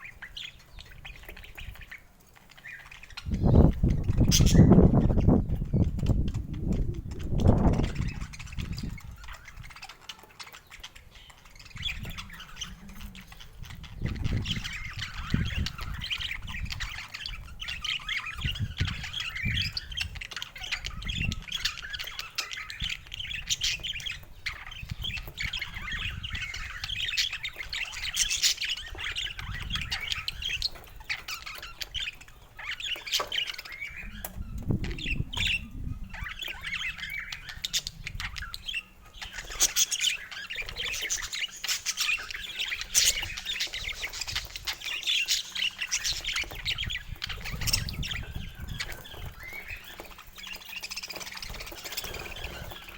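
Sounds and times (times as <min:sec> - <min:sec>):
budgerigar chattering and squawking: 0:00.0 - 0:52.9.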